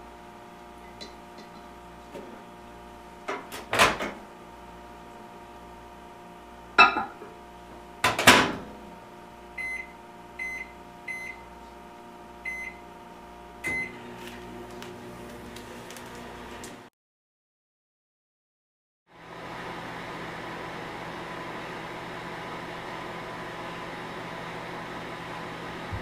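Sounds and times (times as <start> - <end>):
microwave oven humming: 0.0 - 16.9, 19.1 - 26.0.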